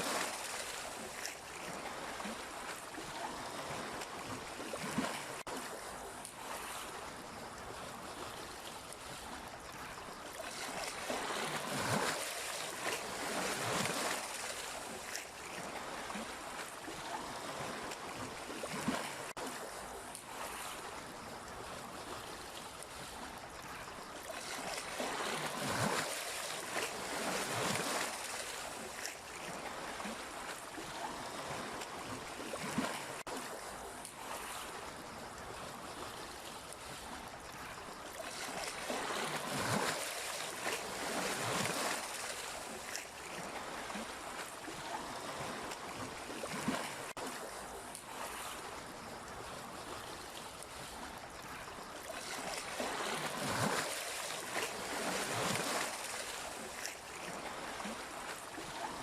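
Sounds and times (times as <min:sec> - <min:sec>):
sea waves washing on shore: 0:00.0 - 0:59.0
water splashes: 0:00.0 - 0:59.0.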